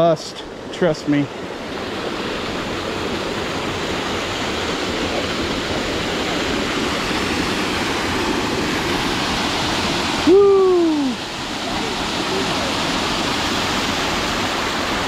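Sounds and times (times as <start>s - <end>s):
waterfall and creek rushing: 0.0s - 15.0s.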